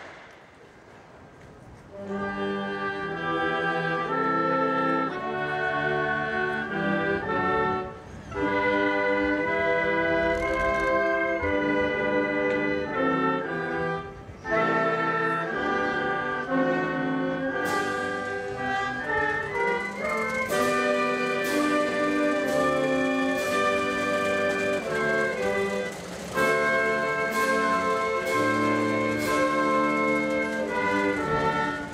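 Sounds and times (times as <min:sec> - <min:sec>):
marching band brass and woodwinds: 0:01.6 - 0:31.9.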